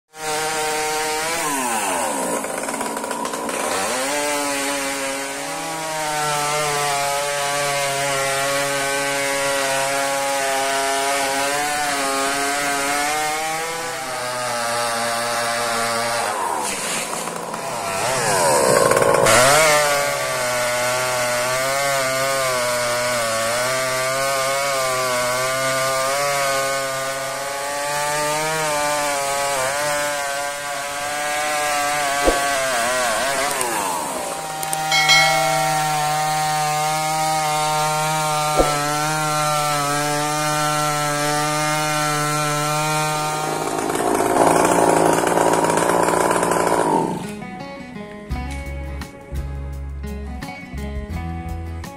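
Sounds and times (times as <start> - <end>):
chainsaw cutting wood: 0.1 - 47.6.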